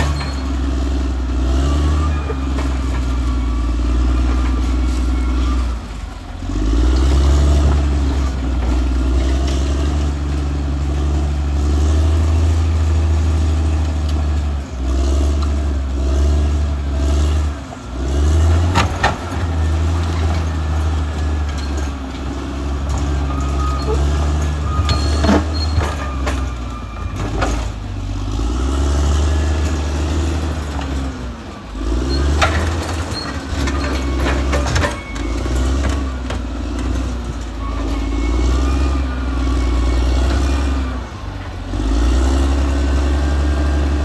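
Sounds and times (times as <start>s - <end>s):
bulldozer diesel engine under load: 0.0s - 44.0s.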